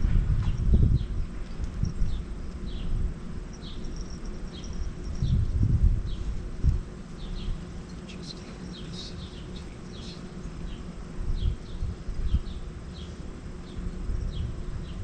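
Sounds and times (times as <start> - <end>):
wind buffeting microphone: 0.0 - 7.9, 9.0 - 15.0
small birds chirping: 0.4 - 15.0.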